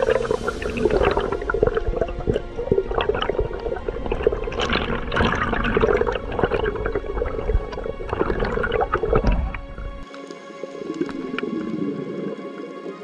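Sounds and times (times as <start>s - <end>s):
water rushing and bubbling underwater: 0.0s - 13.0s.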